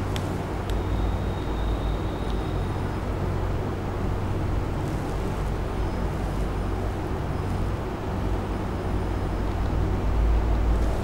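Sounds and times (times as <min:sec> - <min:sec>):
background rumble and hiss: 0:00.0 - 0:11.0.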